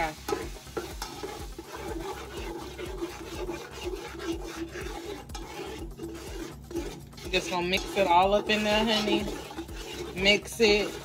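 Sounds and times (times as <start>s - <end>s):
metal utensil scraping a pot: 0.0s - 11.0s.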